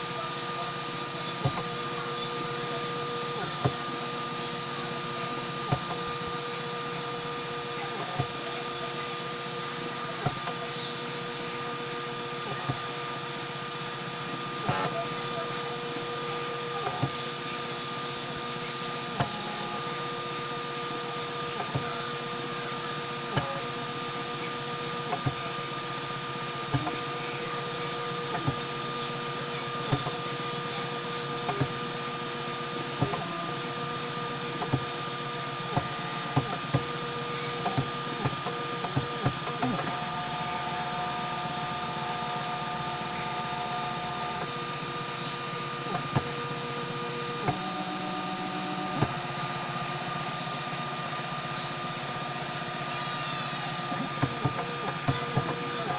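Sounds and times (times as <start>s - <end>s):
printer motors whining: 0.0s - 55.9s.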